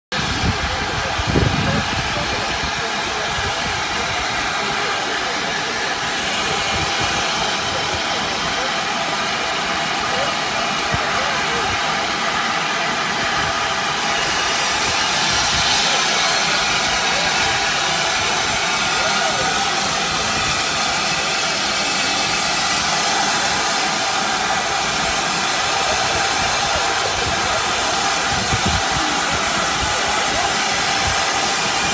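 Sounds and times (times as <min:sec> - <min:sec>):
steam hissing: 0:00.1 - 0:31.9
steam locomotive moving slowly: 0:00.1 - 0:31.9.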